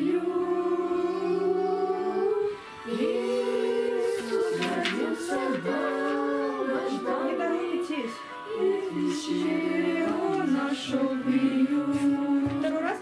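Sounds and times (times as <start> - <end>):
christmas song with singing voices: 0.0 - 13.0.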